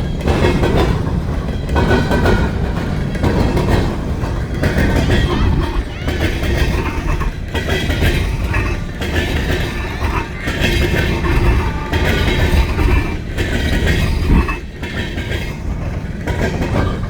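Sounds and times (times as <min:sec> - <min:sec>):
freight train wheels rumbling: 0:00.0 - 0:17.0
train wheels clacking: 0:00.0 - 0:17.0.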